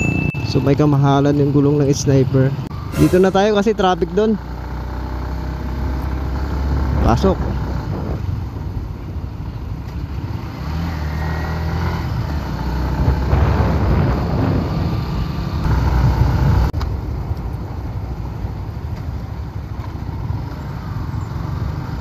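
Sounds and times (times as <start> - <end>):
motorcycle engine: 0.0 - 16.8, 19.8 - 22.0
road and traffic noise: 0.0 - 22.0.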